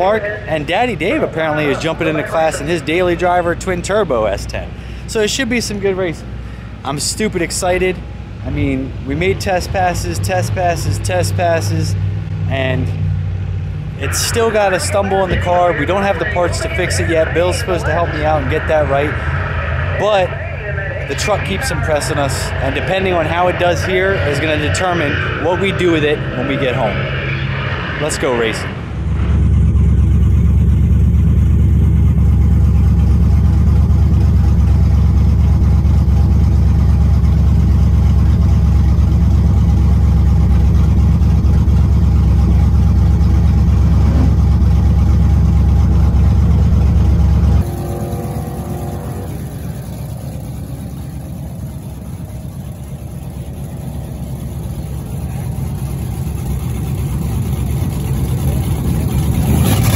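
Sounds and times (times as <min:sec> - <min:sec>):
loud deep vehicle engine: 0:00.0 - 0:59.9
quieter engine pitch changing: 0:00.0 - 0:59.9.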